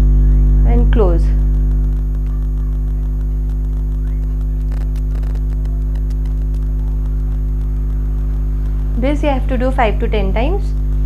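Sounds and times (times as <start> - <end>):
electrical mains hum: 0.0 - 11.0
faint ticks: 1.3 - 11.0.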